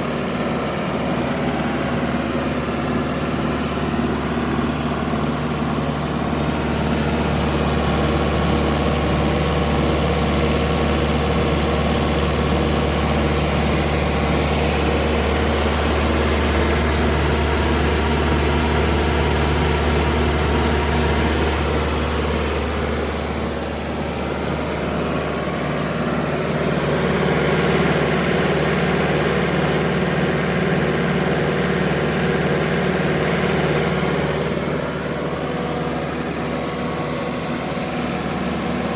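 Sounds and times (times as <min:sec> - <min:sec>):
air compressor diesel engine running: 0:00.0 - 0:38.9.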